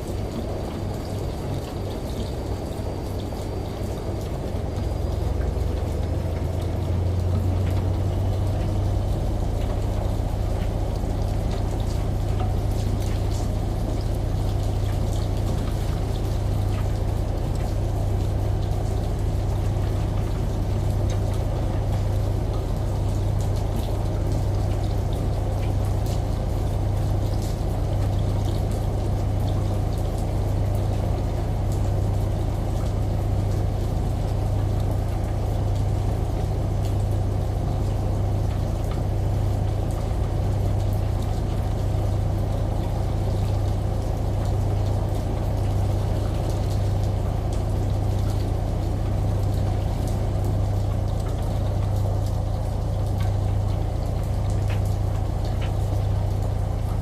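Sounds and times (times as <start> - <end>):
faint drips: 0.0 - 57.0
rain: 0.0 - 57.0
running shower water: 0.0 - 57.0
washing machine hum: 0.0 - 57.0.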